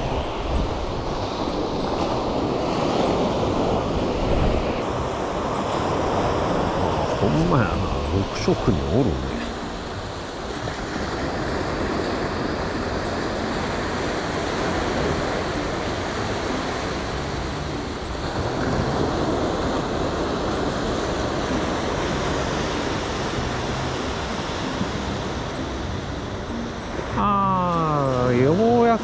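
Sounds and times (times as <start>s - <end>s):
wind rumbling on microphone: 0.0s - 27.2s
surf washing onto beach: 0.0s - 29.0s.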